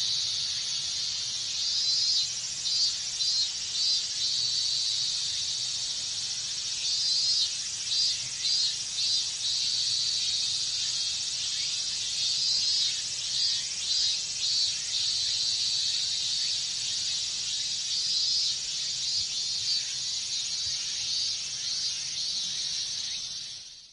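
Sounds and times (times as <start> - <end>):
cicada pulsing calls: 0.0 - 23.9
cicadas buzzing: 0.0 - 23.9.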